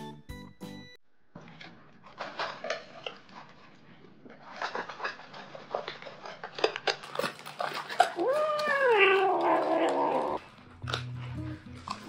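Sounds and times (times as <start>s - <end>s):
cats crunching dry kibble: 2.0s - 12.0s.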